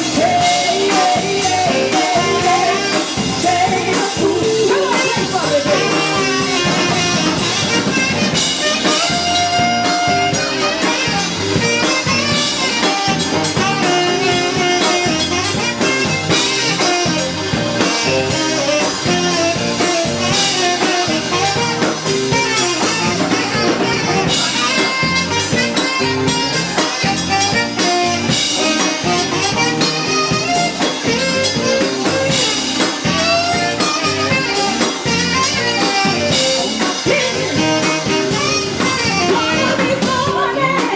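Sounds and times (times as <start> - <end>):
blues band playing: 0.0 - 40.9
drum kit beat: 0.0 - 40.9
horns: 0.0 - 40.9.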